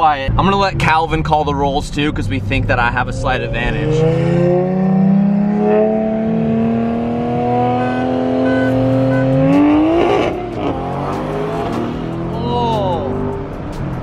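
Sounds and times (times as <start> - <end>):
car engines accelerating hard: 0.1 - 14.0.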